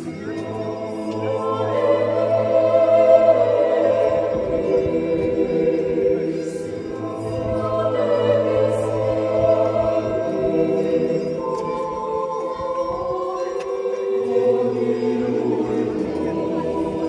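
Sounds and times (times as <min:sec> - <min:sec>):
group singing a cappella chant: 0:00.0 - 0:17.0.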